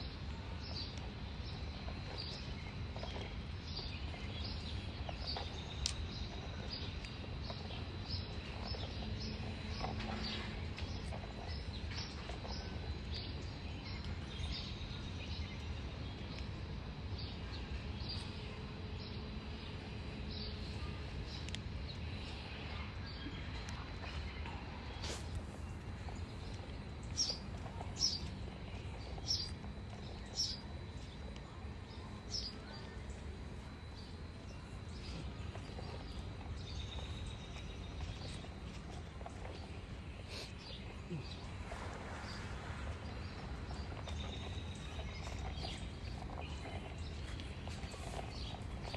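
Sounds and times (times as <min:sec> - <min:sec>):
low outdoor background hum: 0:00.0 - 0:48.9.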